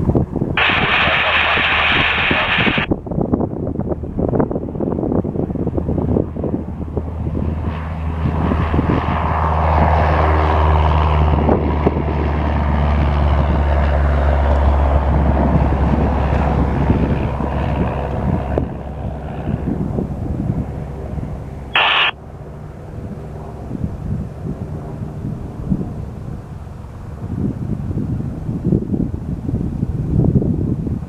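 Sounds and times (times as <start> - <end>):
wind buffeting microphone: 0.0 - 21.4, 23.1 - 31.0
airplane engine drone: 0.0 - 31.0.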